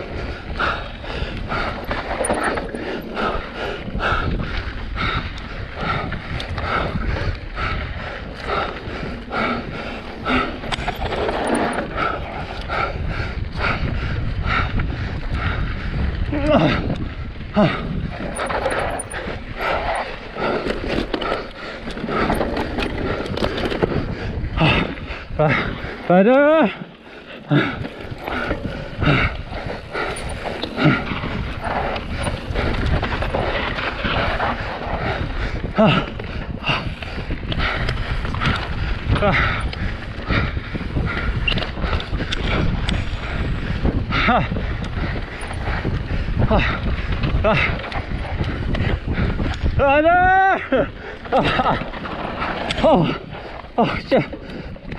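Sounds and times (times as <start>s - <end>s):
rider breathing hard: 0.0s - 49.9s, 50.6s - 54.9s
bike clicks and rattles: 0.0s - 54.9s
bike tyres rumbling on dirt: 0.0s - 54.9s
wind on microphone: 0.0s - 54.9s.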